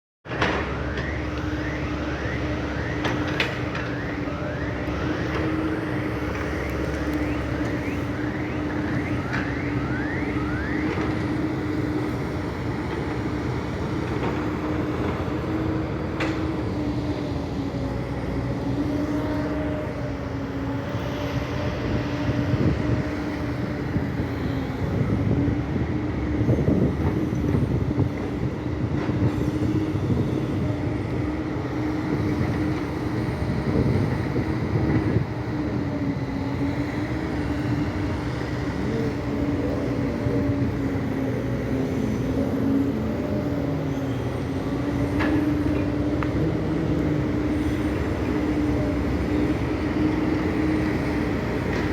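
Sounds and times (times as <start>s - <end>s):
excavator diesel engine running: 0.3s - 51.9s.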